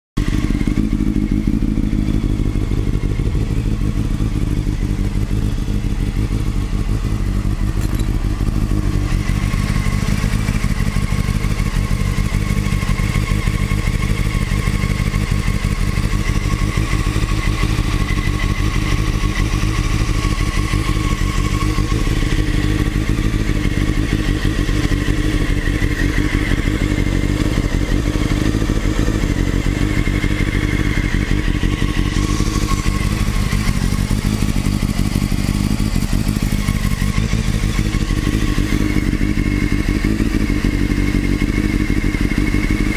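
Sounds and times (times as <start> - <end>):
motorcycle engine idling: 0.2 - 42.9.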